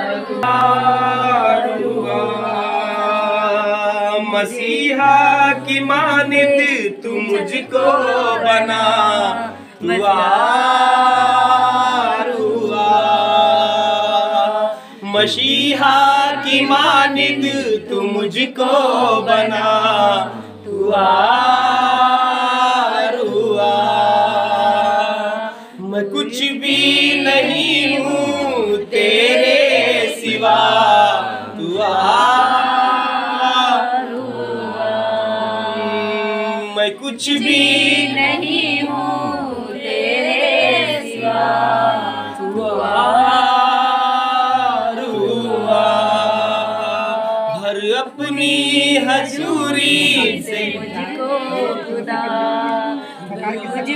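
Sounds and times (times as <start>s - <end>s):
group singing praise song: 0.0s - 53.9s.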